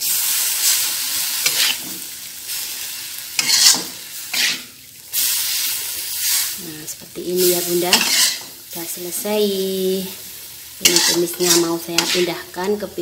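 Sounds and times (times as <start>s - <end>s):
metal spatula scraping wok: 0.0s - 6.6s, 7.3s - 8.6s, 10.1s - 13.0s
leaves sizzling: 0.0s - 13.0s.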